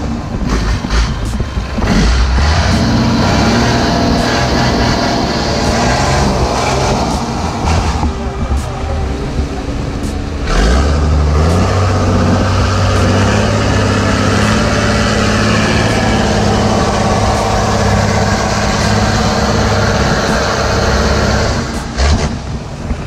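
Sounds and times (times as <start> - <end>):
boat engine running: 0.0 - 23.0
wind and water rushing: 0.0 - 23.0.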